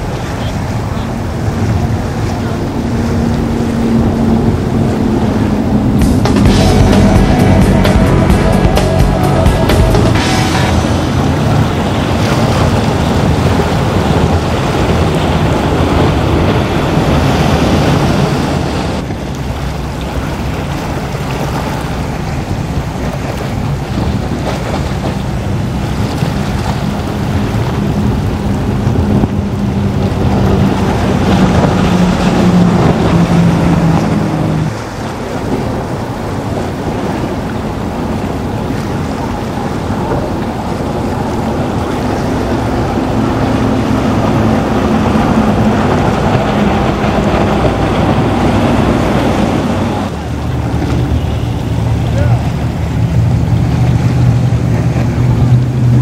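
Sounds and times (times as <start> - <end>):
powerboat engines humming: 0.0 - 56.0
wind and water rushing: 0.0 - 56.0.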